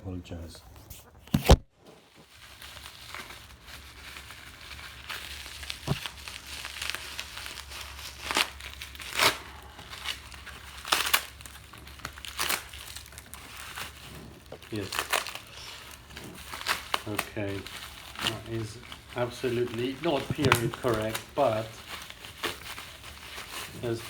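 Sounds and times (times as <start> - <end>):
packaging crinkling and rustling: 1.4 - 24.0.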